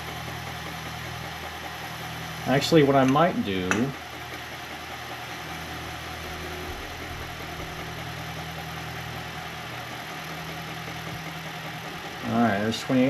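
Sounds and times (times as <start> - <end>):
milling machine cutting: 0.0 - 13.0.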